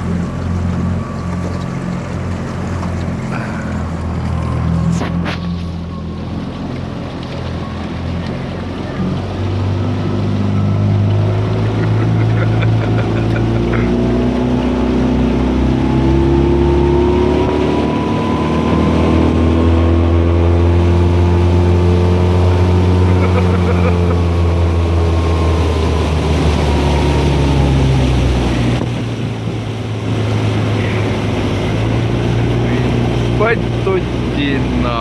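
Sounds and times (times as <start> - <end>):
boat motor running: 0.0 - 35.0.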